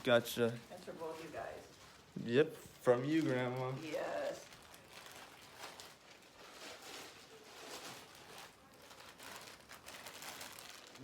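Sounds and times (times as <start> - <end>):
gift wrap rustling and crinkling: 0.0 - 11.0.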